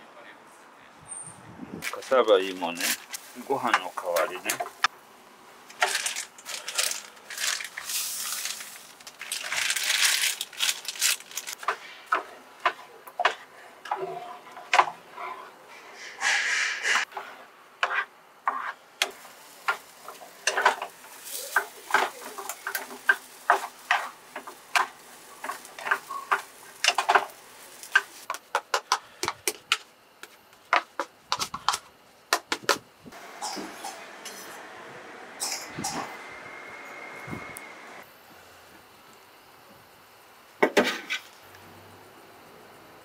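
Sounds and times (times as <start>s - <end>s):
steady background noise: 0.0s - 43.0s.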